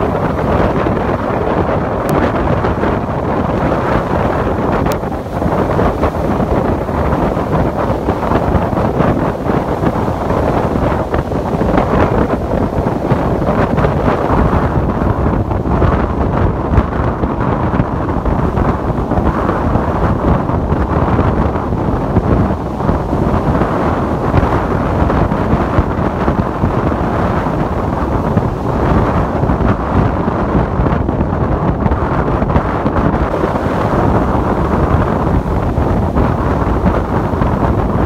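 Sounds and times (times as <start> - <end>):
ocean waves: 0.0 - 38.0
wind buffeting microphone: 0.0 - 38.0.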